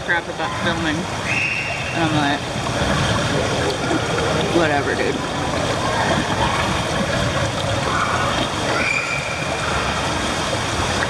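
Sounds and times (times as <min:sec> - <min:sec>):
echoing pool hall ambience: 0:00.0 - 0:11.0
water running: 0:00.0 - 0:11.0.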